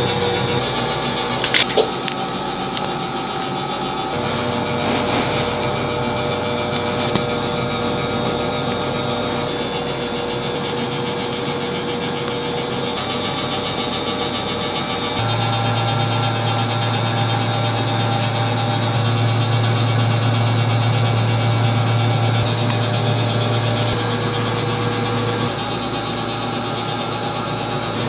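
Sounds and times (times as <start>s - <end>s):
humming tone: 0.0s - 28.0s
machine humming: 0.0s - 28.0s.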